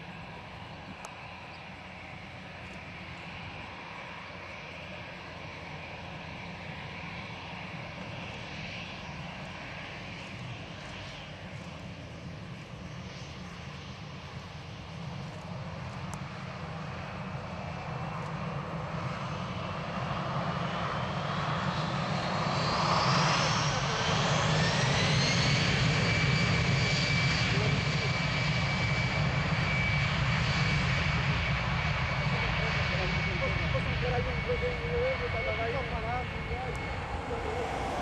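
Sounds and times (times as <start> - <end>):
jet engine whine: 0.0 - 38.0
jet engines rumbling: 0.0 - 38.0.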